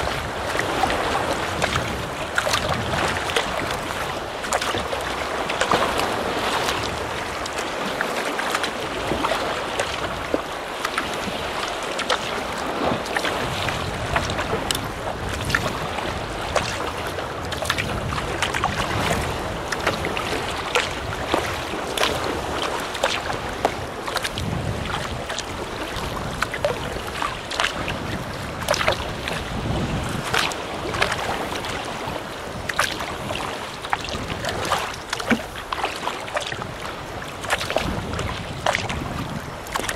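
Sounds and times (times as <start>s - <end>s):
water splashing against a kayak: 0.0s - 39.9s
wind rumbling on microphone: 0.0s - 39.9s.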